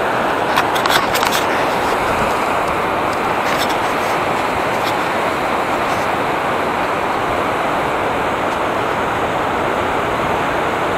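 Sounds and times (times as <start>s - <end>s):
mountain stream flowing over rocks: 0.0s - 10.9s.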